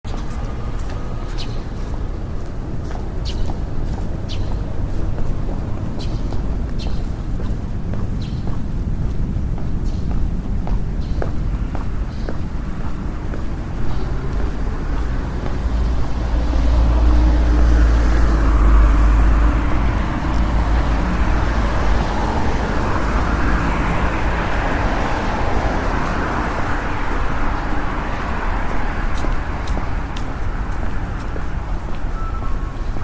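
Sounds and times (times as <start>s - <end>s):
vehicles passing by: 0.1s - 33.0s.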